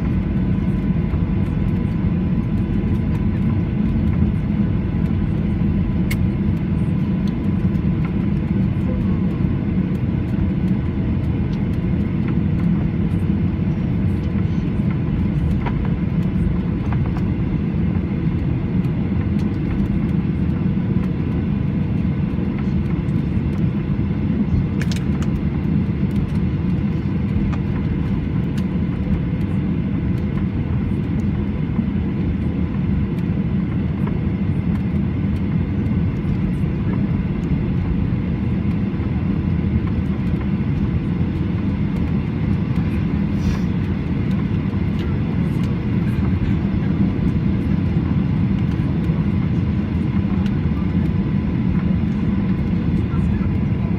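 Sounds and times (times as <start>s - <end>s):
jet engines idling rumble: 0.0s - 53.9s.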